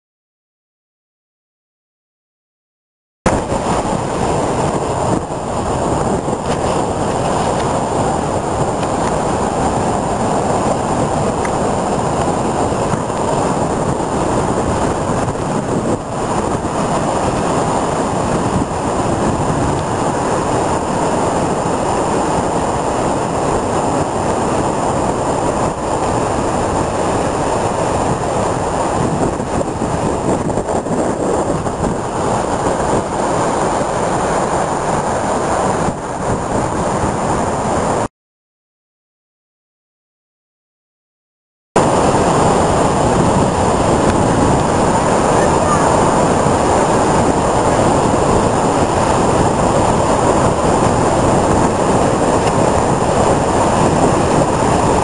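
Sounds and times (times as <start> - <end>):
heavy surf waves breaking: 3.3 - 38.1, 41.8 - 55.0.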